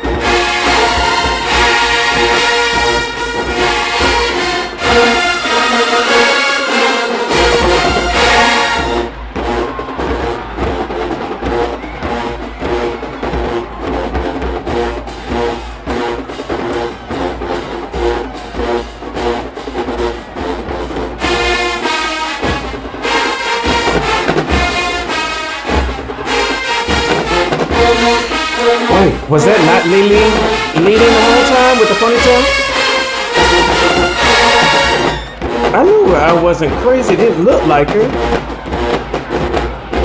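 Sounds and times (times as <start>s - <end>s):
drum beat: 0.0s - 40.0s
marching band brass: 0.0s - 40.0s.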